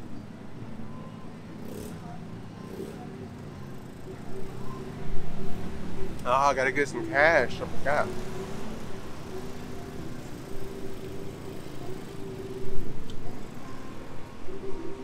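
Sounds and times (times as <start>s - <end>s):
car engines humming: 0.0s - 15.0s.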